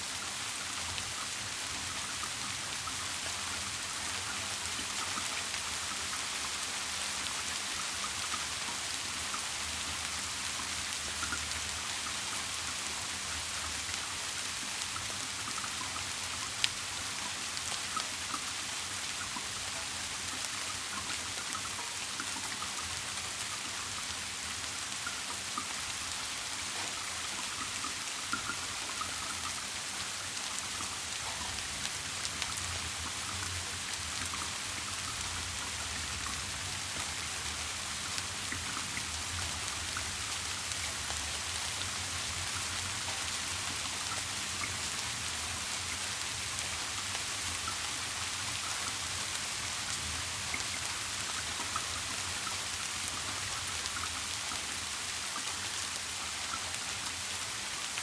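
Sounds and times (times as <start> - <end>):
raindrop ticks: 0.0 - 58.0
steady rain: 0.0 - 58.0.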